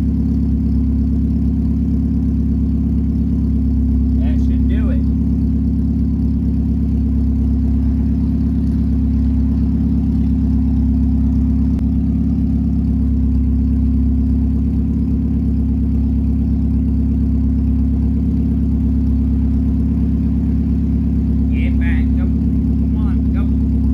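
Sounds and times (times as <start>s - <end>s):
car engine running steadily: 0.0s - 23.9s.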